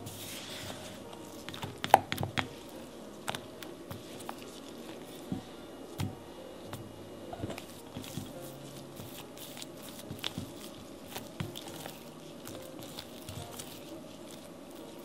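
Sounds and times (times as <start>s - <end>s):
dough squishing: 0.0s - 15.0s.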